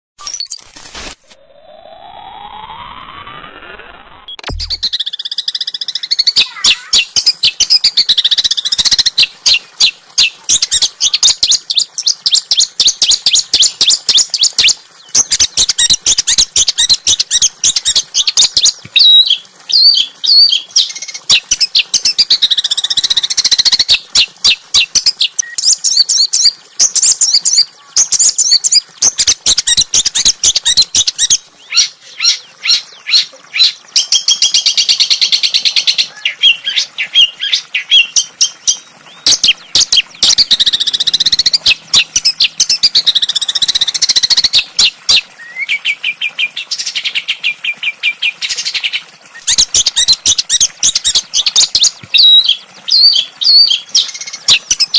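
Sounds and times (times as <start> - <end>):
songbird chirping and trilling: 4.3 - 54.9.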